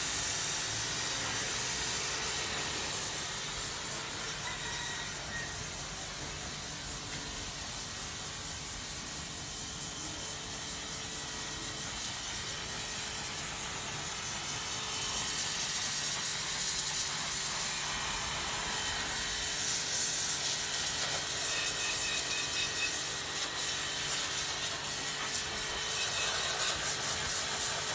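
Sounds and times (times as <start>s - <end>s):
pressure washer spraying stone: 0.0s - 27.9s.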